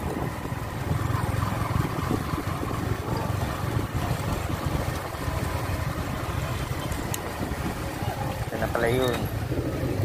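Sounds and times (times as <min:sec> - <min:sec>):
motorcycle engine running: 0:00.0 - 0:10.0
wind rushing over microphone: 0:00.0 - 0:10.0.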